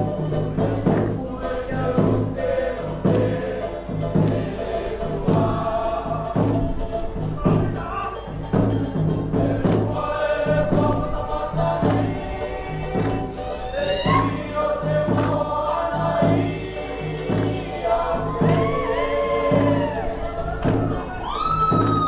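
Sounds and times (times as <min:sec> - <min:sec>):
bass drum beating: 0:00.0 - 0:22.0
group singing: 0:00.0 - 0:22.0
ukuleles and acoustic guitar: 0:00.0 - 0:22.0.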